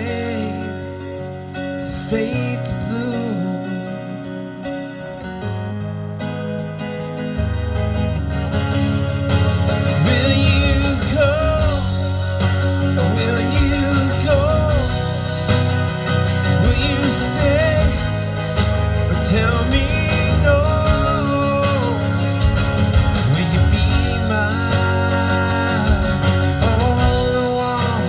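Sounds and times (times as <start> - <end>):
bending melodic lead line: 0.0 - 28.0
live country-rock band playing: 0.0 - 28.0.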